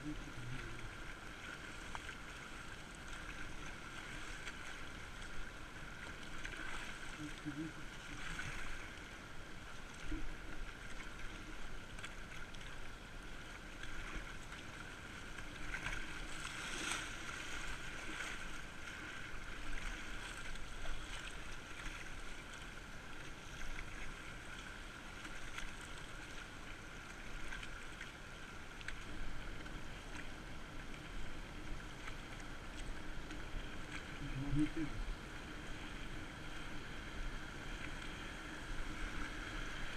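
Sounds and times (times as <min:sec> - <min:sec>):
river water rushing and splashing: 0:00.0 - 0:39.9.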